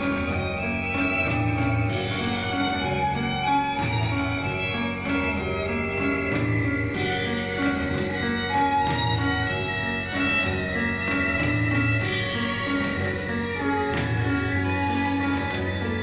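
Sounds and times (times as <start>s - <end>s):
instrumental music with bowed strings: 0.0s - 16.0s.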